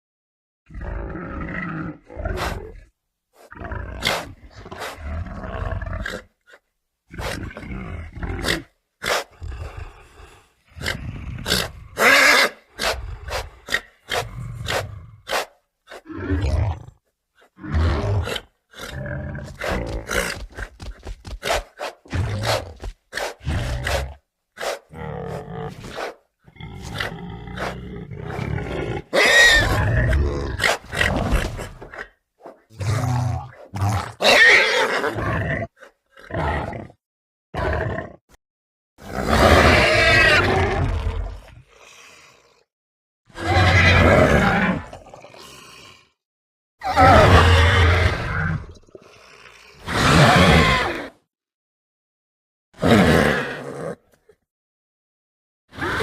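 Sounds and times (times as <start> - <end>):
dinosaur roars and growls: 0.7 - 2.9, 3.5 - 6.4, 7.1 - 15.3, 15.9 - 20.7, 22.1 - 24.2, 24.9 - 32.1, 32.7 - 37.0, 37.6 - 38.4, 39.0 - 42.7, 43.3 - 46.2, 46.8 - 51.3, 52.8 - 54.4.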